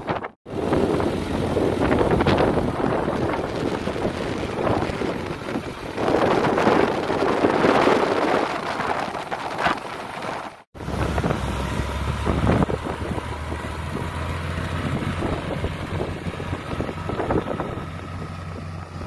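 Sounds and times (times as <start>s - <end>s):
diesel tractor engine running: 0.0s - 19.0s
wind buffeting microphone: 0.0s - 19.0s.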